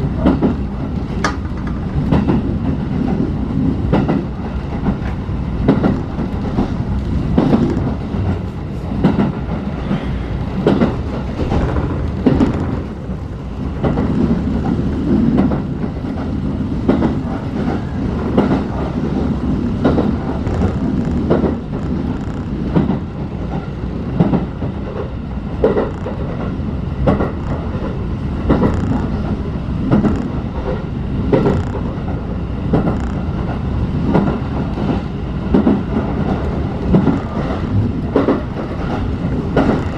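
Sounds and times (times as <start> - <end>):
train running gear rumble: 0.0 - 39.9
wheels clacking over rail joints: 0.0 - 39.9.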